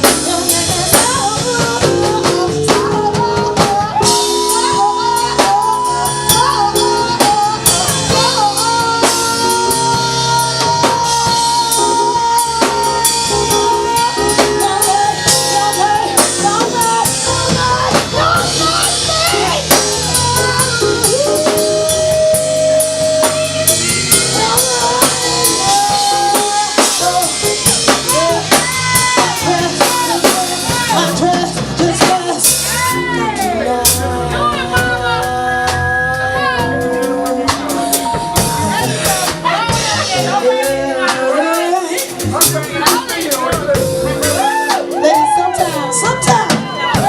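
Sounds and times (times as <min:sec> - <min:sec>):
drum kit beat: 0:00.0 - 0:47.0
guitar: 0:00.0 - 0:47.0
live blues band playing: 0:00.0 - 0:47.0.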